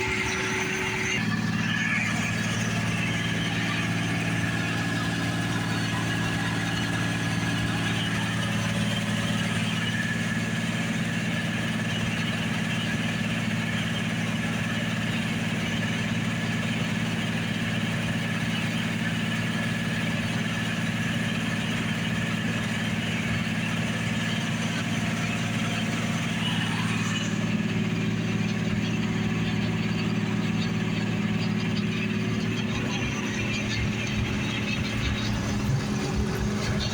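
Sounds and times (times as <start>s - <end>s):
combine harvester engine humming: 0.0s - 36.9s.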